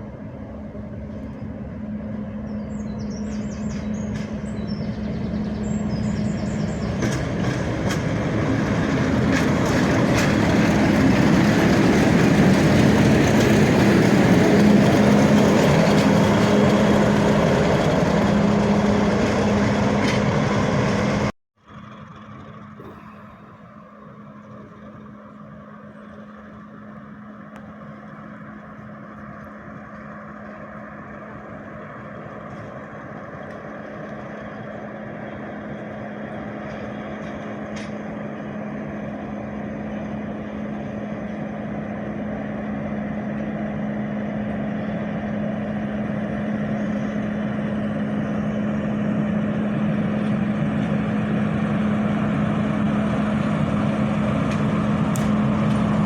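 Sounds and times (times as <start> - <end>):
diesel locomotive engine humming: 0.0 - 56.0.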